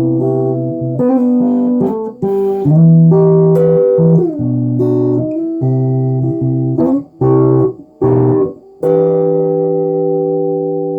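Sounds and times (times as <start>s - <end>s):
guitar chords: 0.0s - 10.9s.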